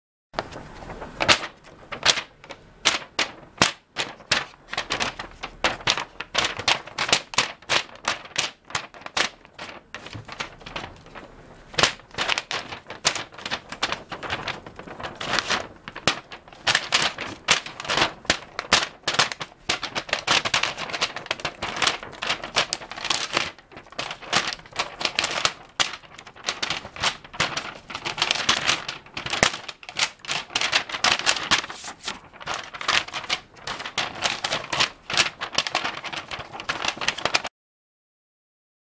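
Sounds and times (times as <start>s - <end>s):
cat claws scratching paper: 0.4s - 37.5s.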